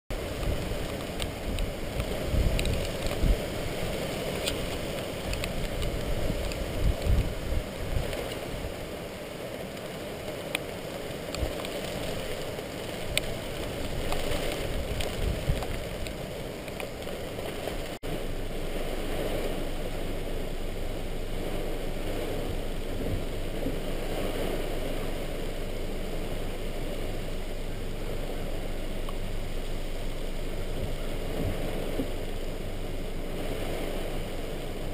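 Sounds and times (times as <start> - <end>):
rain: 0.1 - 34.9
wind gusts buffeting microphone: 0.1 - 34.9.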